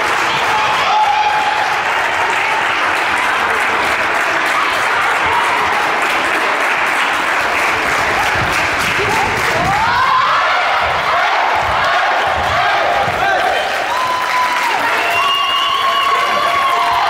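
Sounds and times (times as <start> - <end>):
crowd applause: 0.0 - 17.0.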